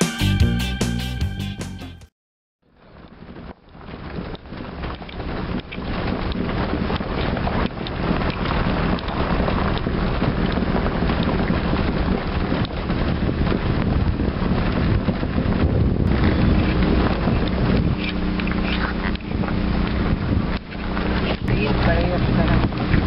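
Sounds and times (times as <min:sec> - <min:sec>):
wind buffeting microphone: 0:02.8 - 0:23.0.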